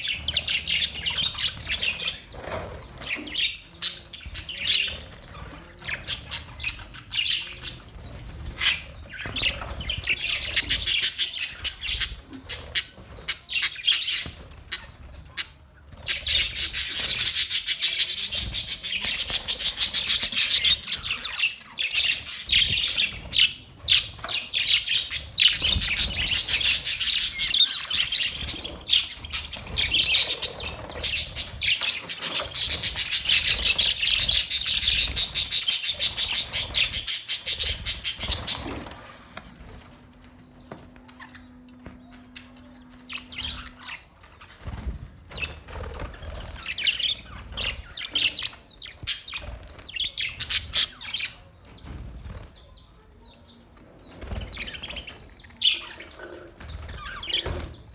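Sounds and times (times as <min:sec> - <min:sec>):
budgerigars chirping and chattering: 0:00.0 - 0:57.9.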